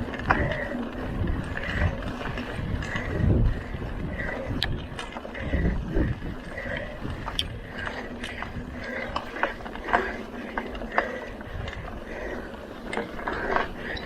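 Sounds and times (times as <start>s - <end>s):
bicycle drivetrain clicks and rattles: 0.0s - 14.0s
low rumble of riding noise: 0.0s - 14.0s.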